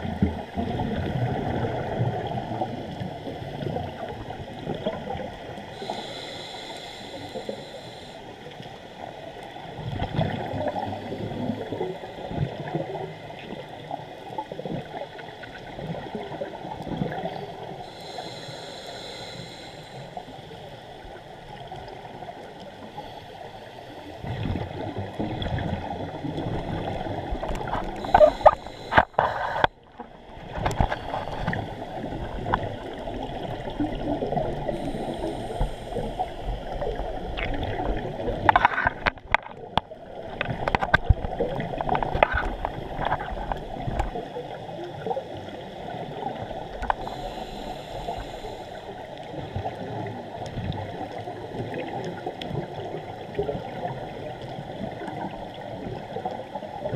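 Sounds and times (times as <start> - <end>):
regulator bubbles underwater: 0.0 - 56.9.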